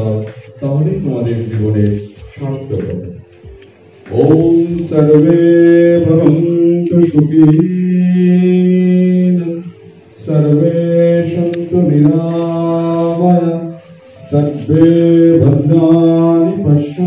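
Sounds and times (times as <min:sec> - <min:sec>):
man chanting over loudspeakers: 0:00.0 - 0:03.3, 0:04.1 - 0:17.0.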